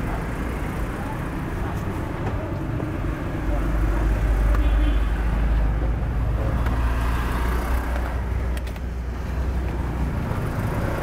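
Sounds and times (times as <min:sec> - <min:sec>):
motorbikes: 0:00.0 - 0:11.0
street traffic rumble: 0:00.0 - 0:11.0.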